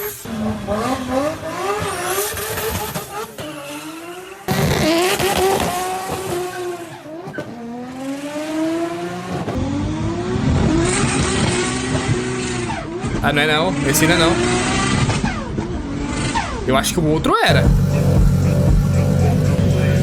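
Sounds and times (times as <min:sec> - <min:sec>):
car engines accelerating hard: 0:00.2 - 0:16.7, 0:17.5 - 0:20.0.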